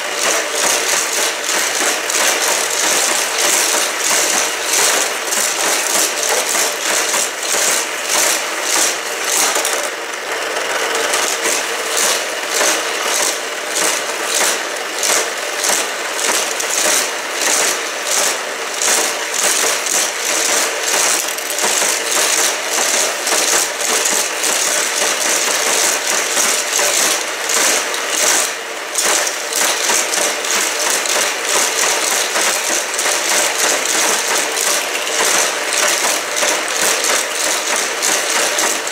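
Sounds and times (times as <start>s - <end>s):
toy cars rattling on plastic track: 0.0s - 38.9s
toy track booster humming: 0.0s - 38.9s.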